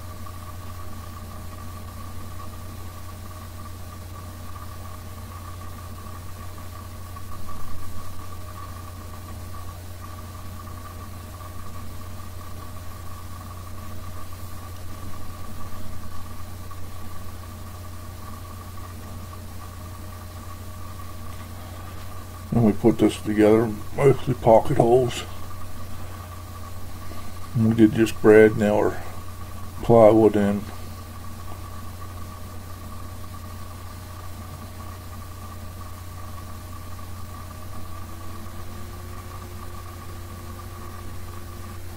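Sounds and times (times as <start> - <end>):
motor humming: 0.0 - 41.9.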